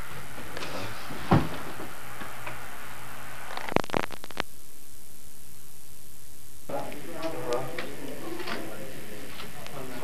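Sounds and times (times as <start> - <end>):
camcorder tape hiss and hum: 0.0 - 10.0.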